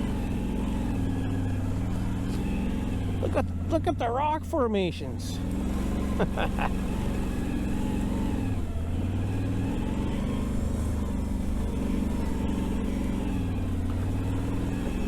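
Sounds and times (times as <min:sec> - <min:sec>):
atv engine running at low speed: 0:00.0 - 0:15.0.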